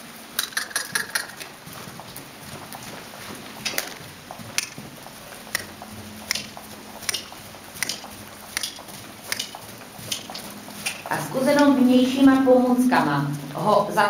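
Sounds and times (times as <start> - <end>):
horse trotting on sand: 0.2 - 14.0.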